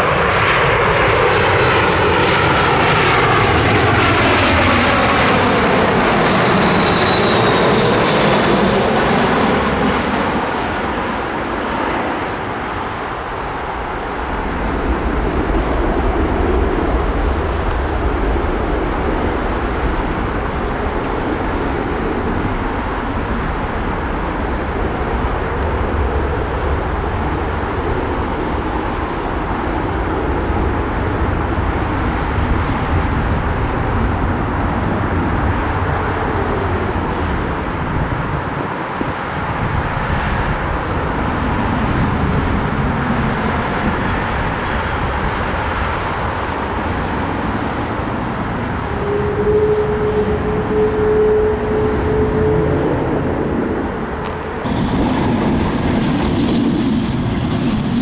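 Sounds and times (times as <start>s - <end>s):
jet airliner engine noise: 0.0s - 58.0s
road traffic: 0.8s - 58.0s.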